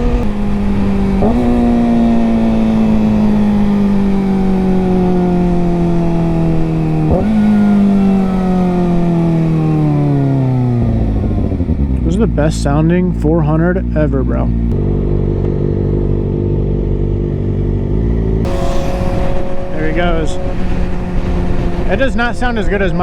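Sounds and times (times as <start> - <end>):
motorcycle engine at high revs: 0.0 - 23.0.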